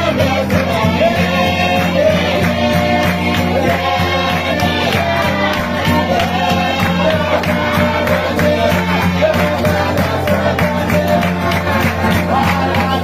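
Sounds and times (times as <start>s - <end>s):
crowd singing in chorus: 0.0s - 13.0s.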